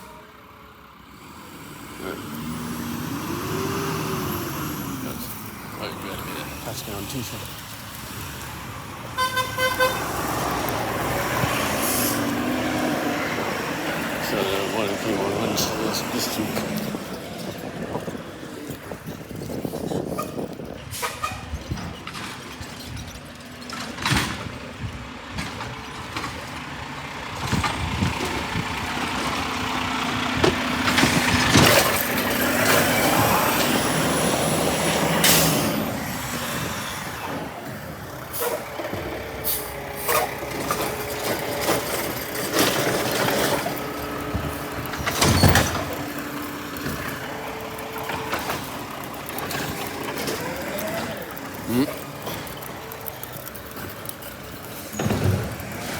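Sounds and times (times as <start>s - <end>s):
heavy truck working: 0.0s - 55.9s.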